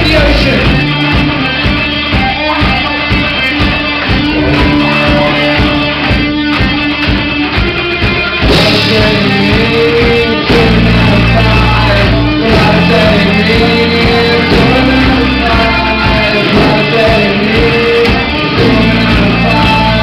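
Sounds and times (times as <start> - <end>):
person singing: 0.0 - 7.3, 8.2 - 20.0
bass line: 0.0 - 20.0
drums: 0.0 - 20.0
electric guitars: 0.0 - 20.0.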